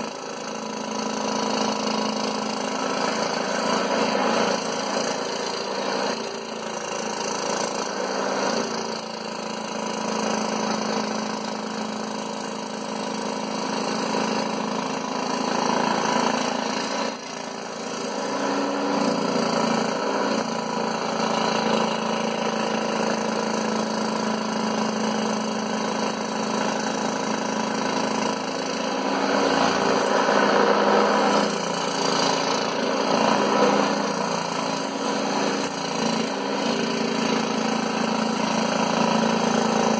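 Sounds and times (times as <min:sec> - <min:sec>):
scroll saw cutting: 0:00.0 - 0:39.9.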